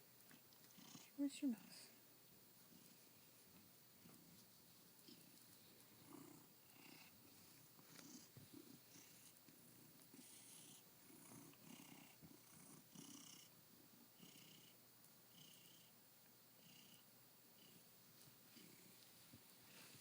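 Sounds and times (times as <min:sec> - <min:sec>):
cat purring: 0:00.2 - 0:02.0, 0:02.6 - 0:15.9, 0:16.5 - 0:20.0.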